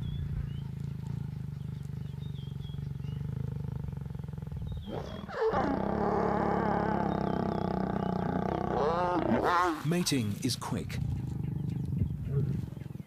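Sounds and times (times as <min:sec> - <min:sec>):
lions growling: 0:00.1 - 0:13.0.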